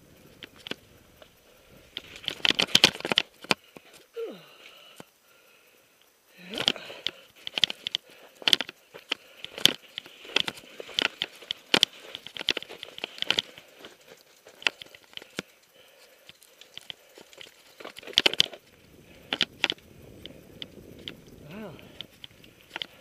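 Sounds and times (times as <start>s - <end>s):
mountain bike knocking and rattling: 0.0s - 4.1s, 6.5s - 23.0s.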